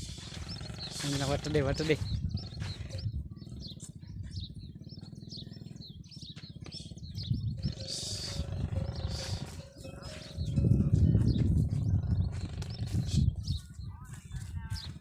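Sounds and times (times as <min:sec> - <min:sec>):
low pulsing rumble: 0:00.0 - 0:15.0
small birds chirping: 0:00.0 - 0:15.0.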